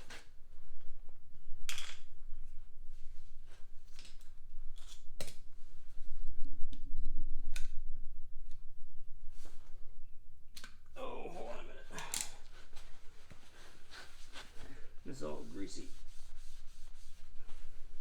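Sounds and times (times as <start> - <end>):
steady low hum: 0.5 - 18.0.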